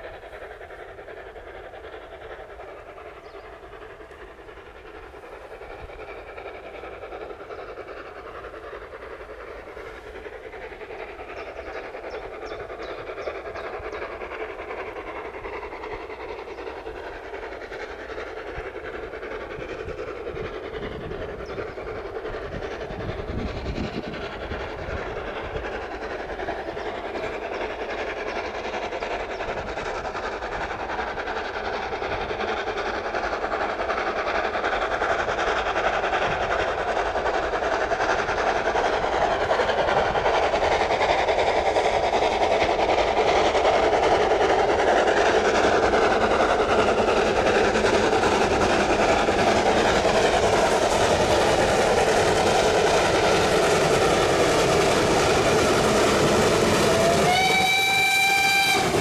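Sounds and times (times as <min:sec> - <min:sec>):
steam train running: 0:00.0 - 0:59.0.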